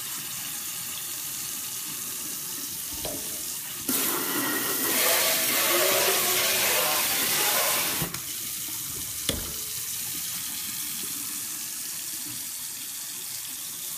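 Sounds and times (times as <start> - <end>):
faucet water hissing into sink: 0.0 - 13.9.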